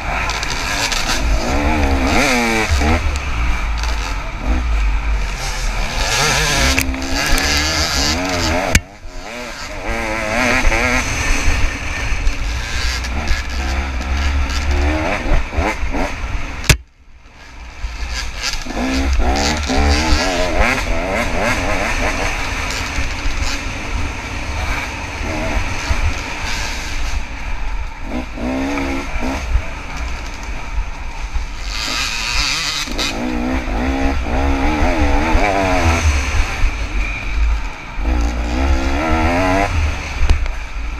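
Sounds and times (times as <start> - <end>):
dirt bike engine revving: 0.0 - 16.8, 17.4 - 40.9
other dirt bikes running: 0.0 - 40.9.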